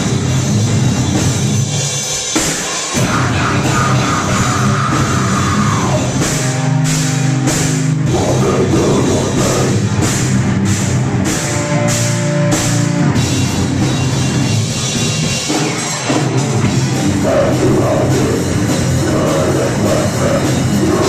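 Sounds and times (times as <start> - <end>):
bass guitar: 0.0 - 1.9, 3.0 - 21.0
distorted electric guitars: 0.0 - 21.0
drum and cymbal hits: 0.0 - 21.0.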